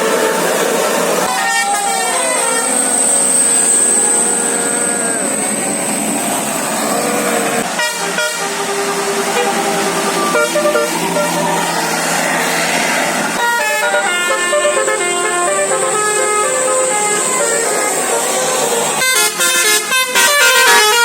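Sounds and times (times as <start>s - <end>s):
musical air horn playing a tune: 0.0s - 5.0s, 7.6s - 12.0s, 13.4s - 21.0s.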